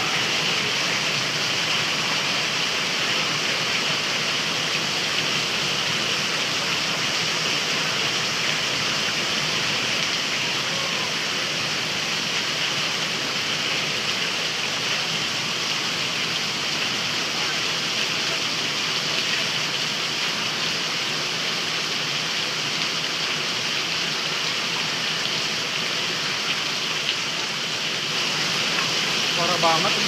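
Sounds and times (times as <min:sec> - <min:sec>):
heavy rain hiss: 0:00.0 - 0:30.0.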